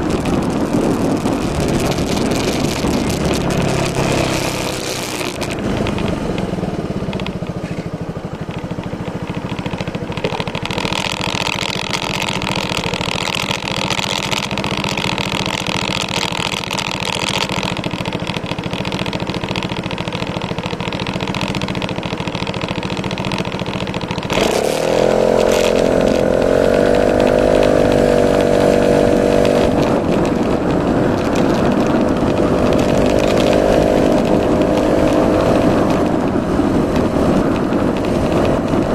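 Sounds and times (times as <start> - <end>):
scooter engine running: 0.0 - 38.9.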